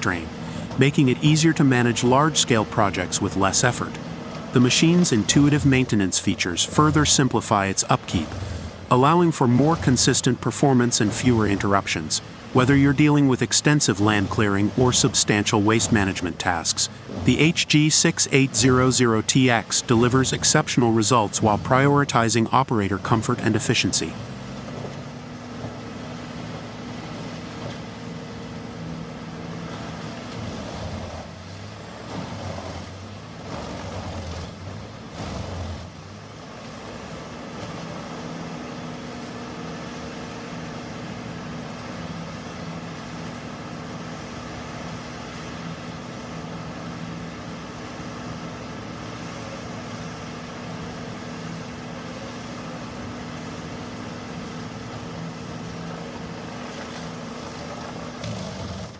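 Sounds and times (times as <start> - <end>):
tree grinder engine humming: 0.0 - 58.9.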